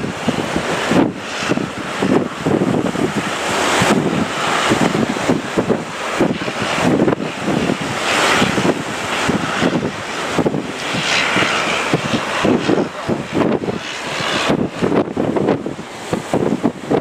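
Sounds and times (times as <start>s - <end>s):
surf rushing: 0.0s - 17.0s
wind buffeting microphone: 0.0s - 17.0s.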